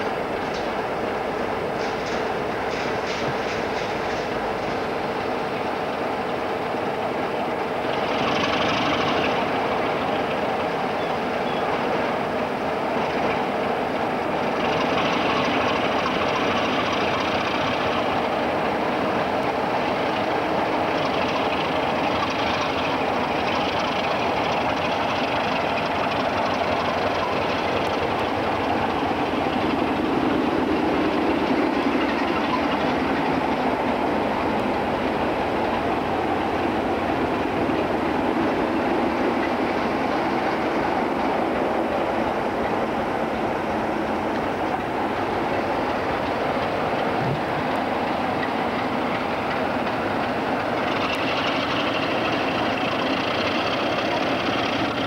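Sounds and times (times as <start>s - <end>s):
diesel locomotive engines running: 0.0s - 55.0s
train rumble: 0.0s - 55.0s
wheels clattering over rail joints: 0.0s - 55.0s.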